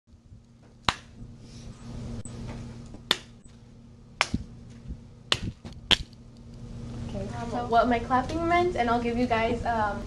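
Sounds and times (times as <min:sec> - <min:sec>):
faint low room hum: 0:00.1 - 0:10.0.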